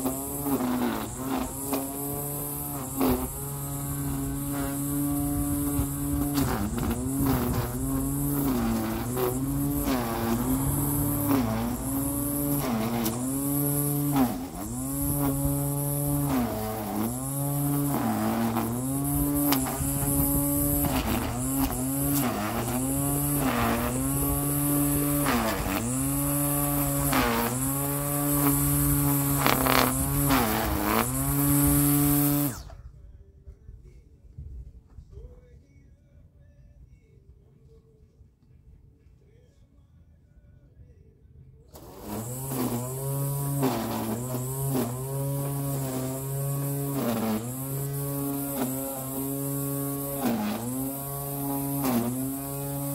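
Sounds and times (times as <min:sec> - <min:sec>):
string trimmer motor running: 0:00.0 - 0:32.8, 0:41.7 - 0:52.9.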